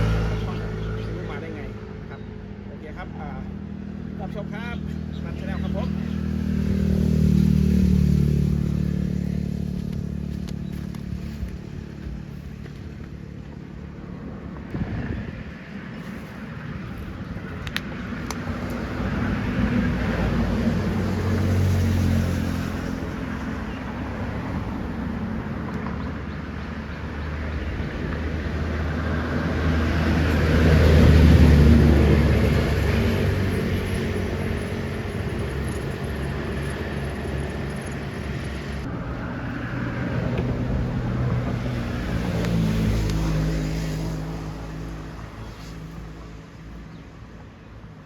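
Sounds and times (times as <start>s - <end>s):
car engine drone: 0.0s - 46.7s
road noise: 0.0s - 48.0s.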